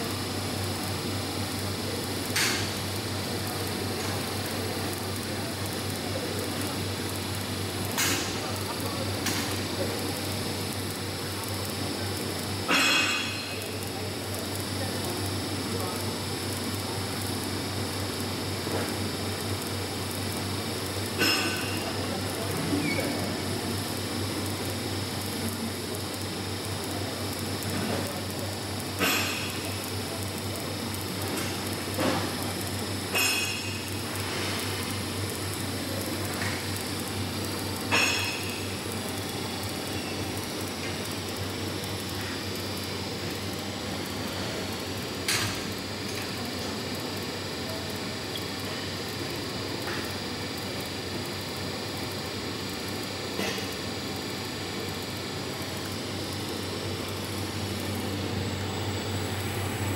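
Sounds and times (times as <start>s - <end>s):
arc welding hiss: 0.0s - 59.9s.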